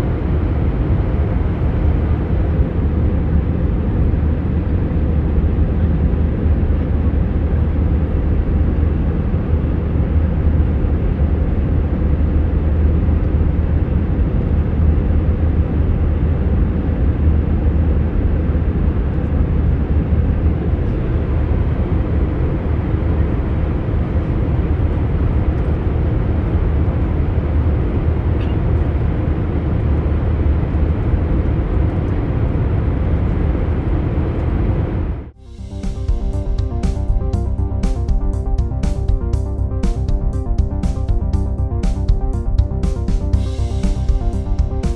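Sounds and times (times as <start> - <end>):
jet airliner cabin rumble: 0.0 - 44.9.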